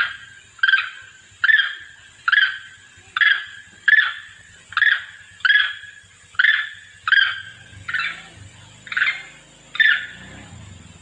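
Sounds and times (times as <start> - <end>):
monkey giving sharp calls: 0.0 - 10.4.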